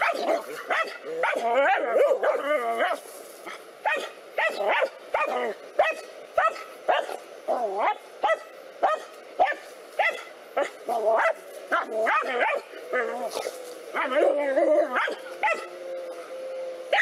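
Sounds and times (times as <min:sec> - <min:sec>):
dog yelping: 0:00.0 - 0:03.0, 0:03.8 - 0:15.7
dogs barking rapidly: 0:00.0 - 0:15.7.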